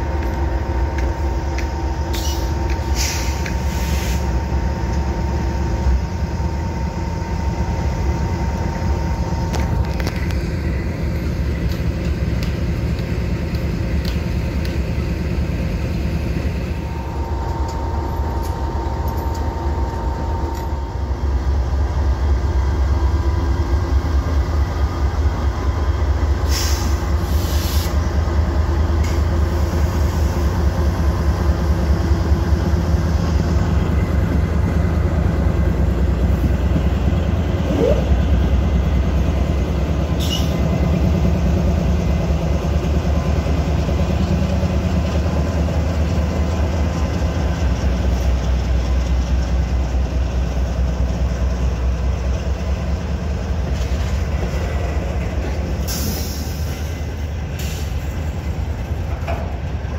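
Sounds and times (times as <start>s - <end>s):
diesel locomotives rumbling: 0.0s - 59.9s
freight cars rolling on rails: 0.0s - 59.9s.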